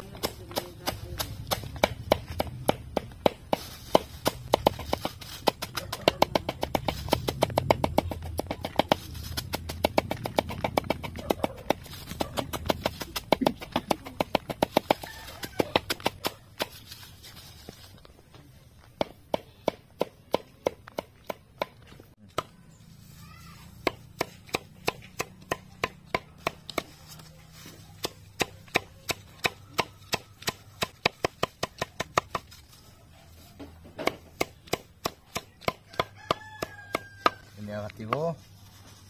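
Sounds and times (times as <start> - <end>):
machete chopping greens on wood: 0.0 - 16.8, 19.0 - 22.7, 23.8 - 32.7, 33.6 - 38.4.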